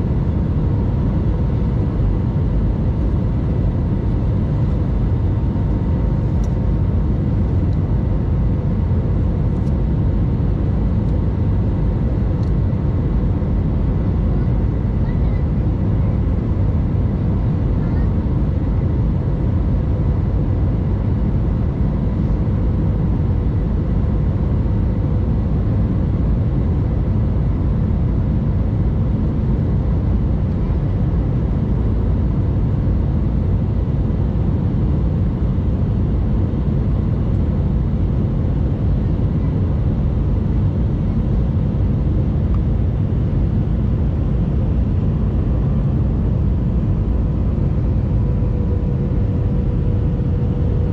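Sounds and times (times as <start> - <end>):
jet engine and airflow noise: 0.0 - 50.9.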